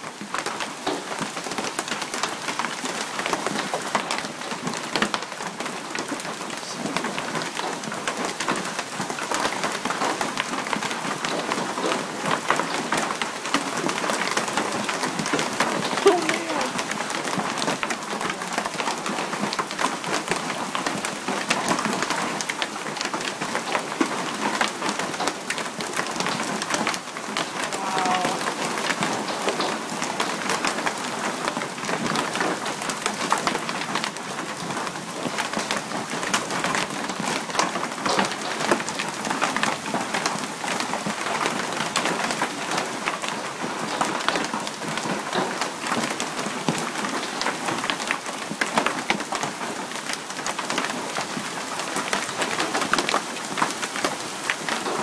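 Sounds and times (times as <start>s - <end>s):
hail and rain pattering: 0.0s - 55.0s.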